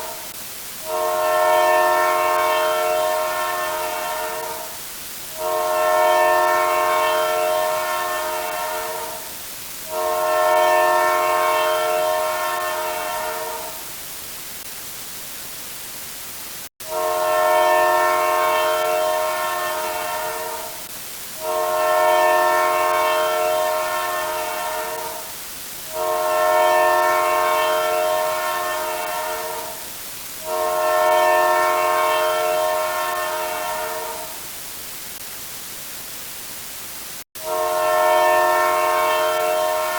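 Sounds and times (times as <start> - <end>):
multi-tone horn blasts: 0.0 - 13.9, 16.8 - 34.5, 37.4 - 39.9
steady hiss: 0.0 - 39.9.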